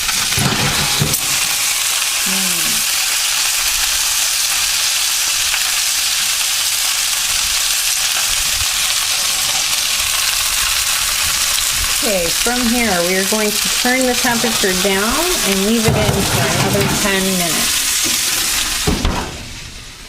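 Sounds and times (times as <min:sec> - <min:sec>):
chicken sizzling on a baking pan: 0:00.0 - 0:20.0.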